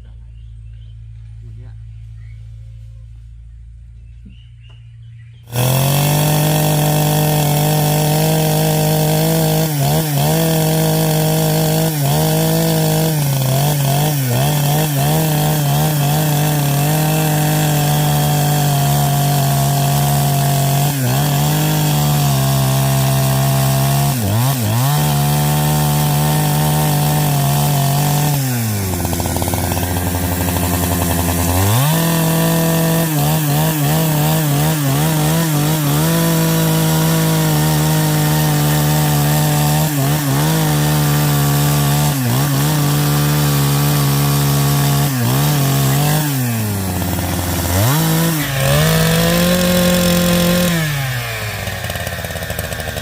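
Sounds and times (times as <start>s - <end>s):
chainsaw cutting wood: 5.4s - 53.0s.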